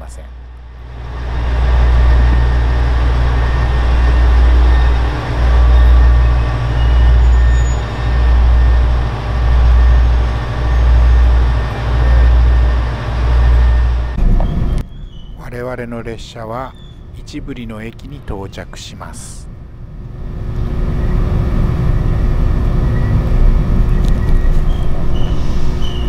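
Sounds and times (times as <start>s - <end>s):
diesel railcar rumbling: 0.0s - 26.0s.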